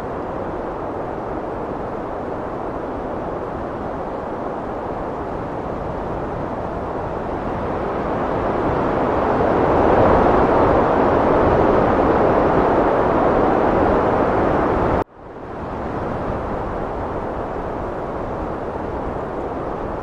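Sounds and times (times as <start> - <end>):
heavy wind blowing: 0.0 - 20.0.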